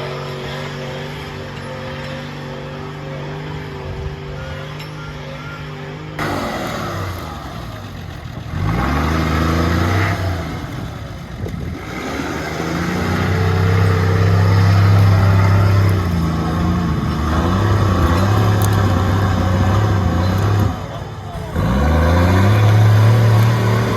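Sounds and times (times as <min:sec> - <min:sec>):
diesel engine revving: 0:00.0 - 0:23.9.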